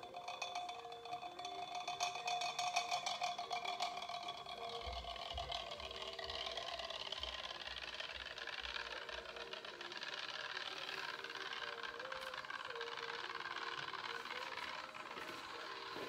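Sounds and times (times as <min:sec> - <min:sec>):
stir bar clicking and ringing: 0:00.0 - 0:16.0
stir plate whirring: 0:00.0 - 0:16.0.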